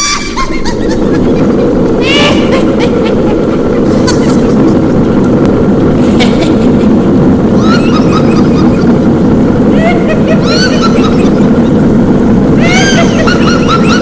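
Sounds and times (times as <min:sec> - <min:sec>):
low rumble of bubbling cauldron: 0:00.0 - 0:14.0
witch cackling: 0:00.0 - 0:14.0.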